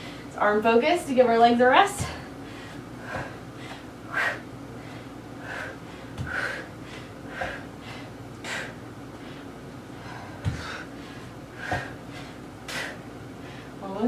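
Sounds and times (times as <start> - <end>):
woman's forceful breaths out: 2.0 - 13.8.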